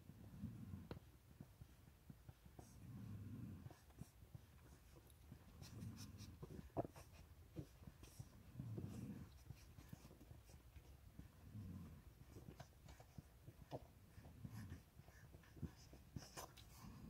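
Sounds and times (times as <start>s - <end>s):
dog breathing softly: 0.0s - 17.0s
puppies suckling wet clicks: 0.9s - 3.0s, 3.6s - 16.7s.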